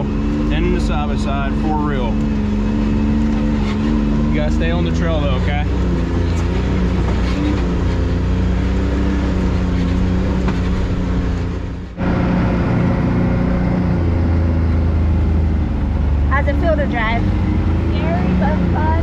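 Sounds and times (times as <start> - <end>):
utility vehicle engine running: 0.0 - 19.0.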